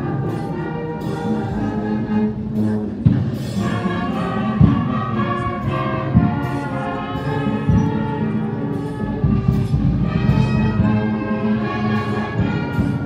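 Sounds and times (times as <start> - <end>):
brass band playing solemn music: 0.0 - 13.0.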